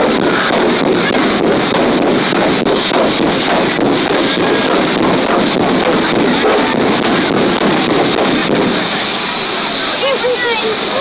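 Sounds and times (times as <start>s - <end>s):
car engine high revs: 0.0s - 11.0s
tyres spinning on tarmac: 0.0s - 11.0s.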